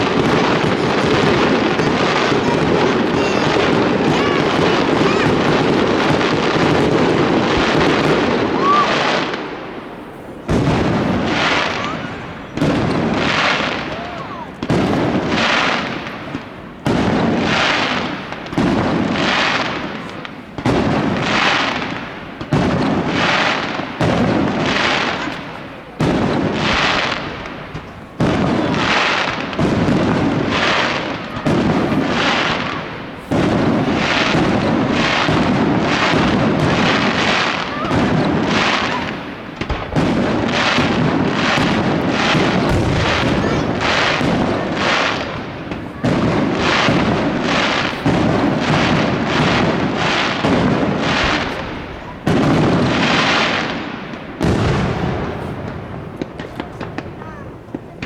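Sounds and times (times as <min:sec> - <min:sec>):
fireworks booming: 0:00.0 - 0:58.0.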